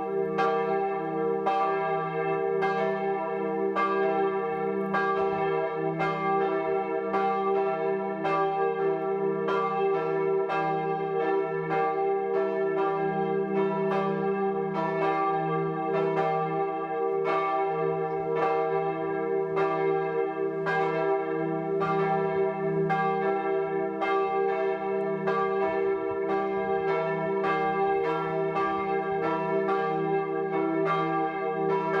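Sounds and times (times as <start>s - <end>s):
church bells pealing: 0.0s - 32.0s.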